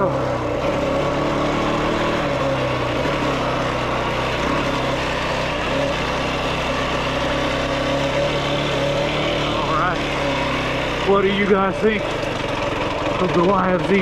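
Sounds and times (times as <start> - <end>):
quad bike engine idling: 0.0 - 14.0.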